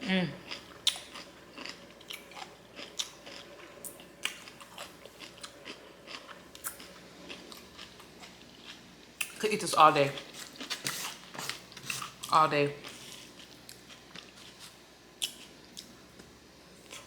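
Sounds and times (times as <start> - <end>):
person chewing crunchy food: 0.4 - 9.4, 10.2 - 16.1.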